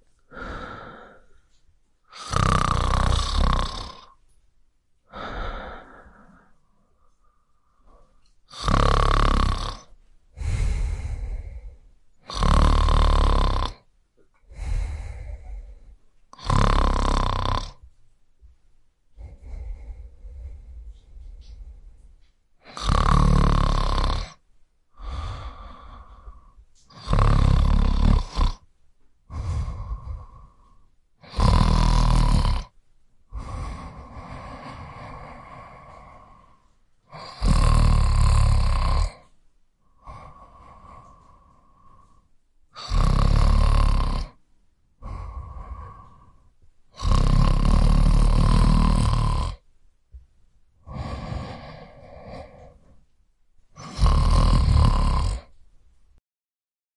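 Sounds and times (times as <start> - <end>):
person snoring: 0.3 - 1.4, 2.1 - 4.2, 5.1 - 6.6, 7.8 - 13.9, 14.5 - 17.8, 19.2 - 22.0, 22.6 - 28.7, 29.3 - 44.4, 45.0 - 49.6, 50.8 - 53.0, 53.7 - 55.6.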